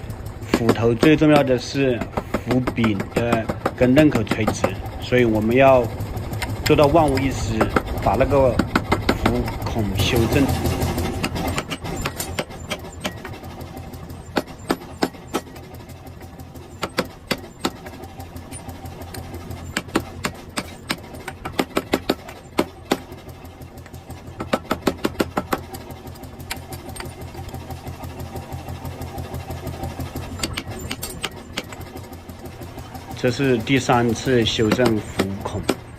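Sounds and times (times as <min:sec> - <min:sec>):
low machine hum: 0:00.0 - 0:35.9.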